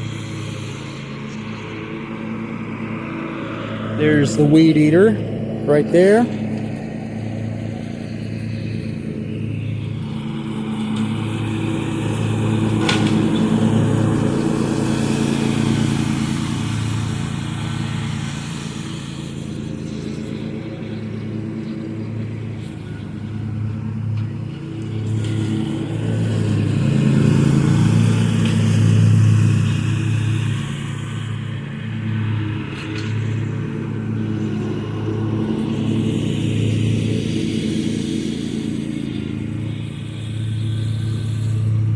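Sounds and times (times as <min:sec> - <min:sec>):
lawn mower engine running: 0:00.0 - 0:41.9.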